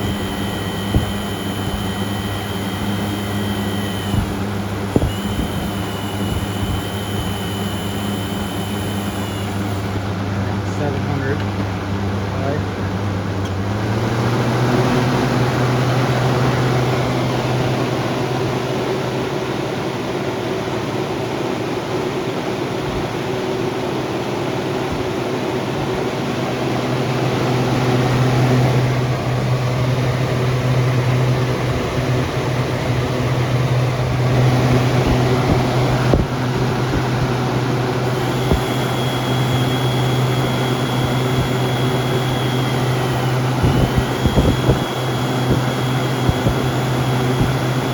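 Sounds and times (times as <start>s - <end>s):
box fan motor hum: 0.0s - 19.6s, 24.6s - 47.9s.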